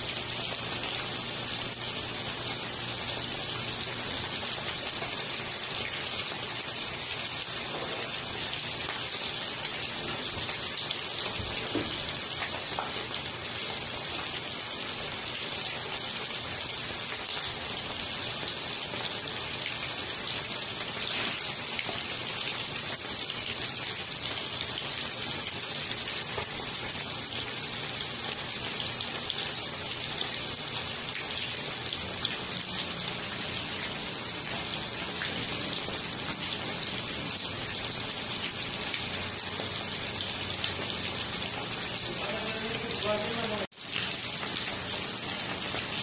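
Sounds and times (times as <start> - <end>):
chicken frying in oil: 0.0 - 46.0.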